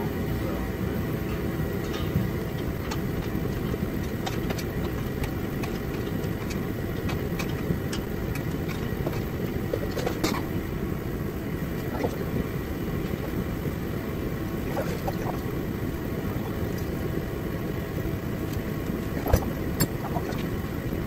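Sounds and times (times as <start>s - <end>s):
low machine rumble: 0.0s - 21.0s.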